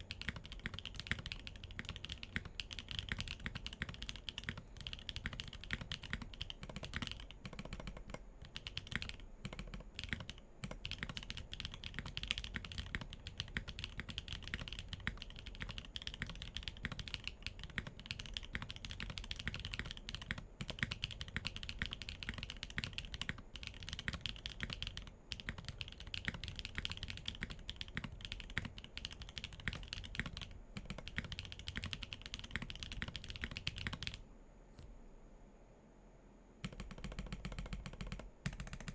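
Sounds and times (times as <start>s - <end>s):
fast mechanical keyboard typing: 0.0s - 34.2s, 36.6s - 38.9s.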